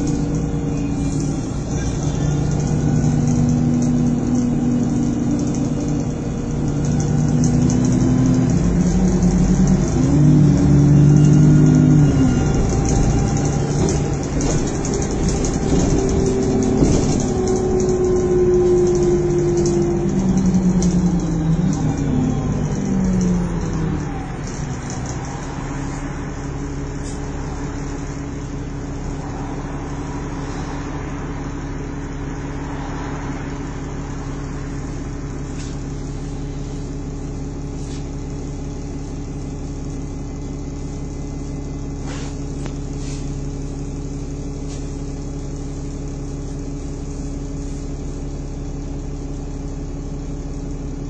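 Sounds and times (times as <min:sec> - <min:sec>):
diesel bus engine idling: 0:00.0 - 0:51.0.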